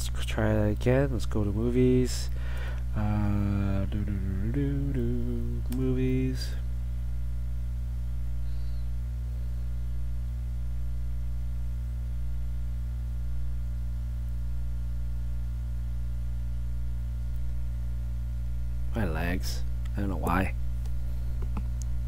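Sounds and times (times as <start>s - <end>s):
low electrical mains hum: 0.0s - 22.0s.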